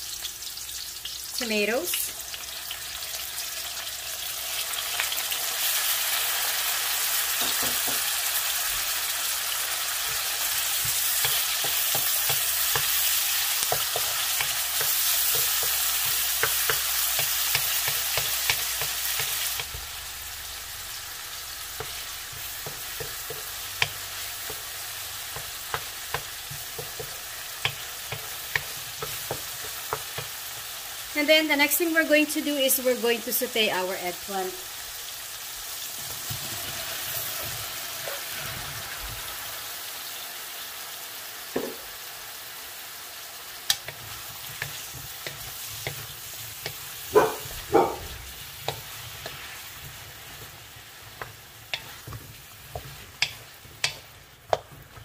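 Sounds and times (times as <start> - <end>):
tomatoes sizzling in hot oil: 0.0 - 55.0.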